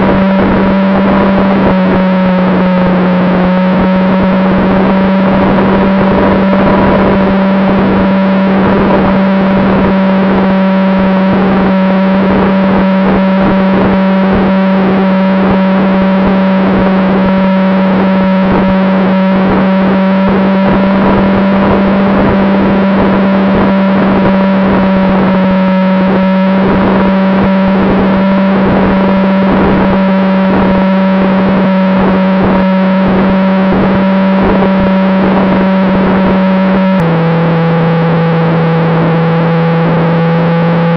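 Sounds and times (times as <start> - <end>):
model airplane distorted buzz: 0.0 - 40.9.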